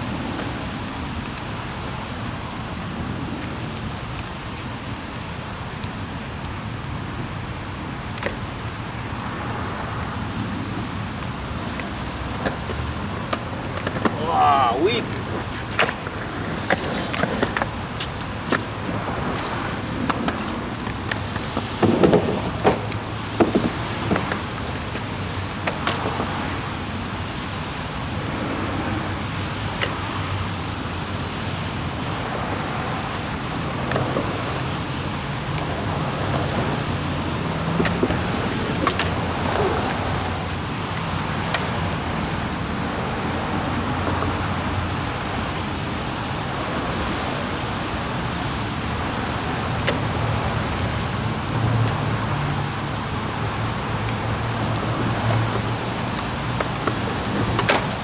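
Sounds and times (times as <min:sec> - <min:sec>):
skateboard clacks: 0:00.0 - 0:58.0
skateboard wheels rolling on pavement: 0:00.0 - 0:58.0.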